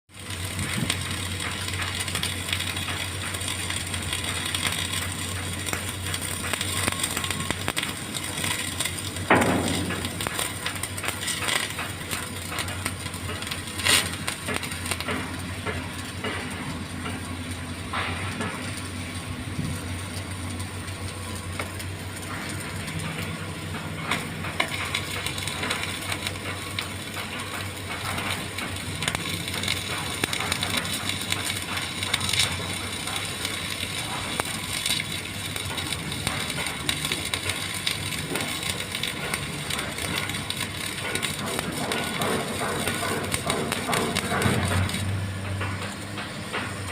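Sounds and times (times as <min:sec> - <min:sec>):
welding arc crackling: 0:00.1 - 0:46.9.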